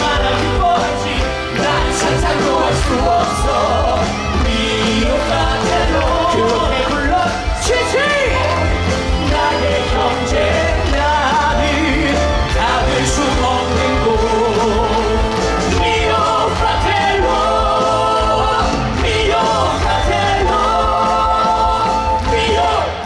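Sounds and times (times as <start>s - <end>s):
amplified music with strong bass: 0.0s - 23.0s
men singing together: 0.0s - 23.0s.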